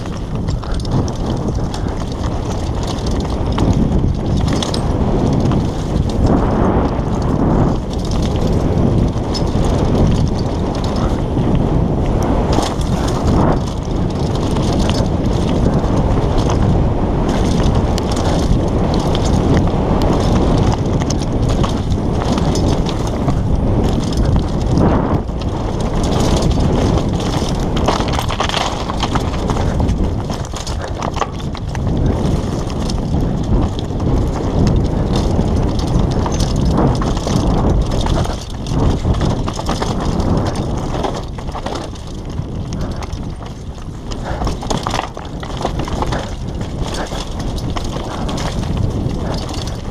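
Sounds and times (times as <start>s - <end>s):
bike rattling: 0.0s - 49.9s
tyres crunching over stones: 0.0s - 49.9s
wind rushing on microphone: 0.0s - 49.9s.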